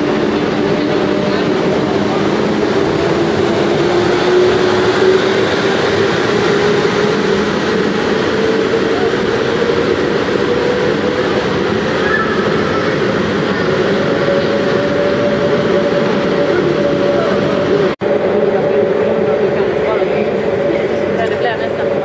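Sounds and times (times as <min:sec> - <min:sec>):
rising train whine: 0:00.0 - 0:22.0
train wheel and running noise: 0:00.0 - 0:22.0.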